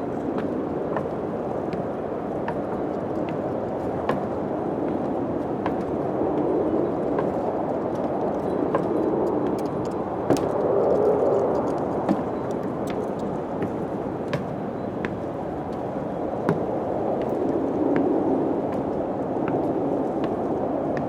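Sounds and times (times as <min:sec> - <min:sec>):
wind blowing: 0:00.0 - 0:21.0.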